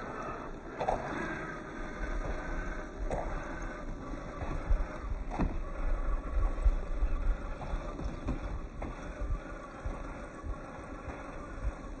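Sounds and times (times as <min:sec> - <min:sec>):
rc car electric motor and gears: 0:00.0 - 0:12.0.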